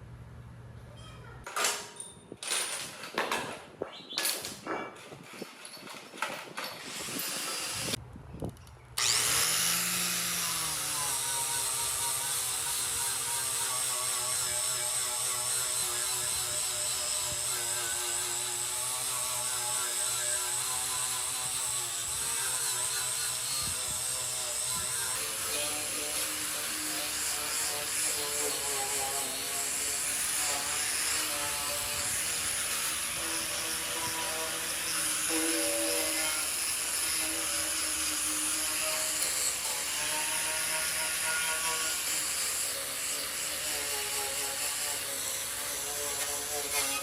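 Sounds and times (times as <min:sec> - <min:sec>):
electric power tool running: 0:06.8 - 0:08.0, 0:09.0 - 0:47.0.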